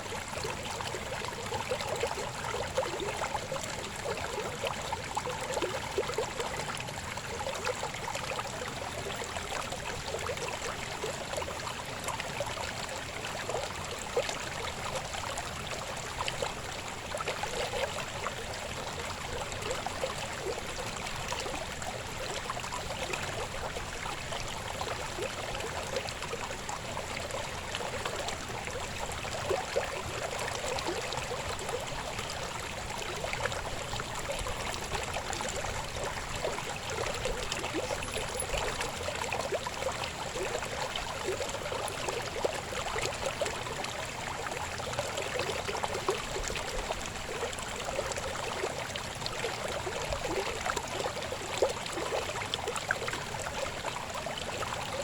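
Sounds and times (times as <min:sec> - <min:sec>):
river water babbling over stones: 0:00.0 - 0:55.0.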